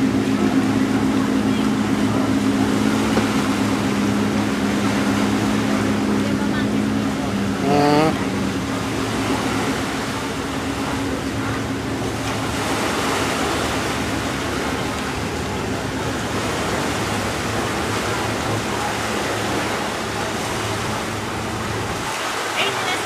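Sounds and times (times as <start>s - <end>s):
wash of open air and water: 0.0s - 23.0s.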